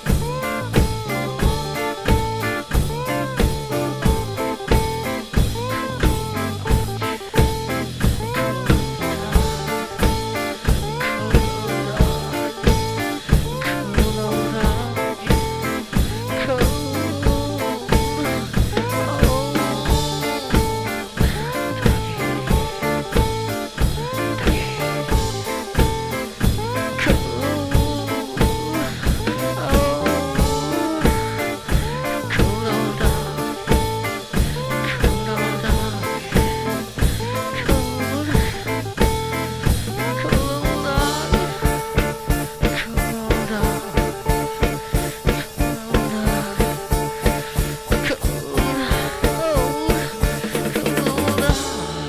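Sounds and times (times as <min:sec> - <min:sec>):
blues lead melody with bending notes: 0:00.0 - 0:52.0
drum kit beat: 0:00.0 - 0:52.0.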